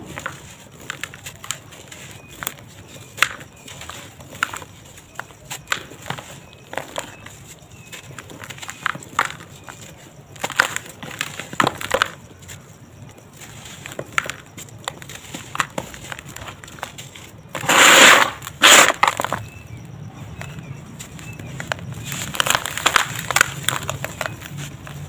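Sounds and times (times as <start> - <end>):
dry cement lumps crunching: 0.0 - 25.0.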